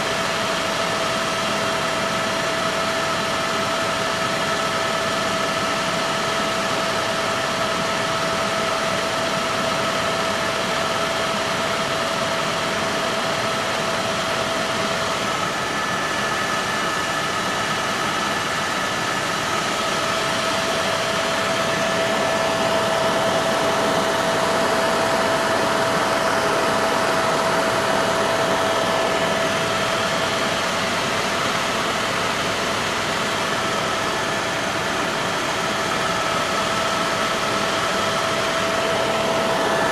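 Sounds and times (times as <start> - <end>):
helicopter cabin drone: 0.0 - 39.9.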